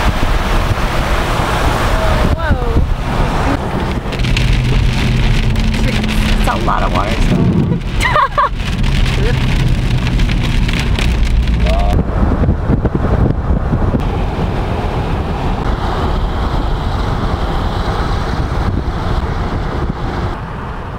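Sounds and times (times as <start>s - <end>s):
heavy rain on a car: 0.0s - 20.8s
low rumble: 0.0s - 20.9s
wind: 0.0s - 20.9s.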